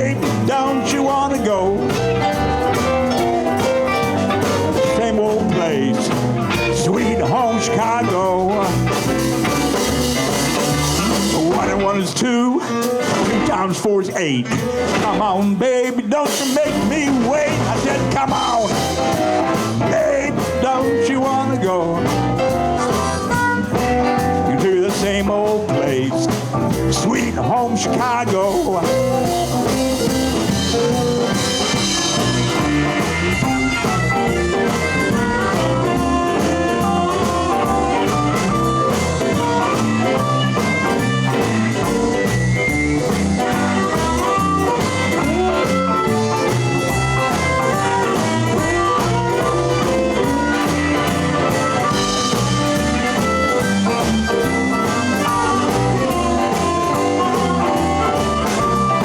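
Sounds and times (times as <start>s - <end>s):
electric guitar: 0.0s - 59.0s
live blues band playing: 0.0s - 59.0s.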